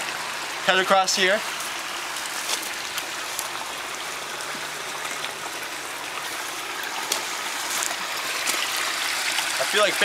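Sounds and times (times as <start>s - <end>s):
stream trickling over cascades: 0.0s - 10.0s.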